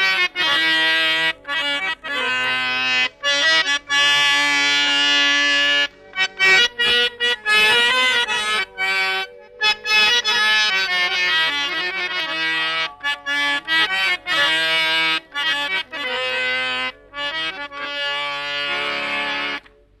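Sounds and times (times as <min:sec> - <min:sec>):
reedy free-reed instrument melody: 0:00.0 - 0:20.0.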